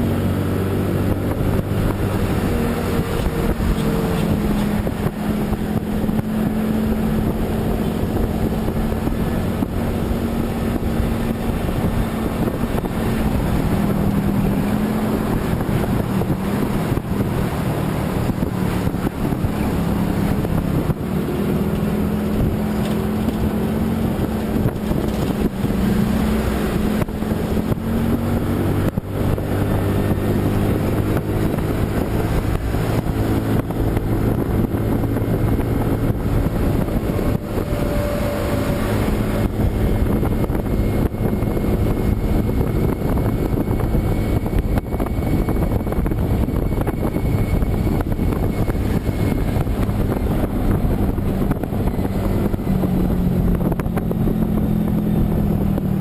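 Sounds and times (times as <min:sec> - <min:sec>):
vehicle engine running: 0:00.0 - 0:56.0
wind and road noise: 0:00.0 - 0:56.0.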